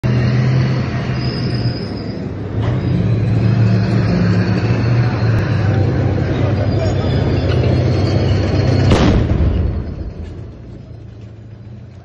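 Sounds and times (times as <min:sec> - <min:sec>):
heavy vehicle engine droning: 0:00.0 - 0:12.0.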